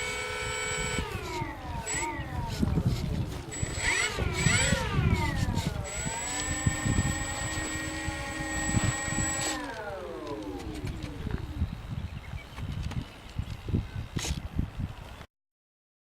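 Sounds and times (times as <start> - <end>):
electric motors and propellers whining: 0.0 - 15.2.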